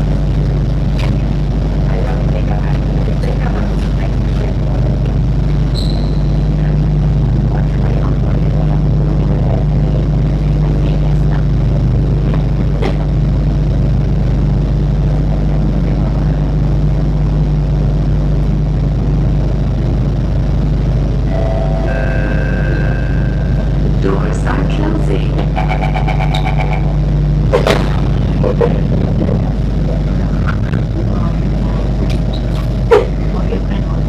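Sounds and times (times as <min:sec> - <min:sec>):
train humming at platform: 0:06.4 - 0:34.0.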